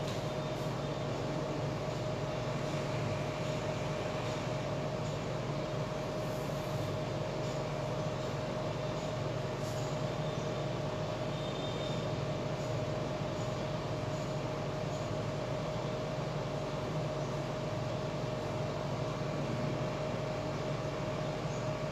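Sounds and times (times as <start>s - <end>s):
room hum and hiss: 0.0s - 21.9s.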